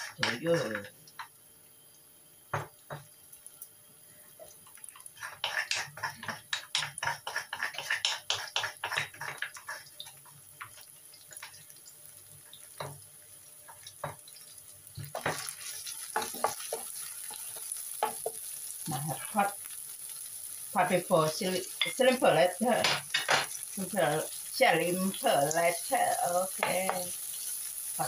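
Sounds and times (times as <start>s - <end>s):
food frying in oil: 0.0s - 28.0s.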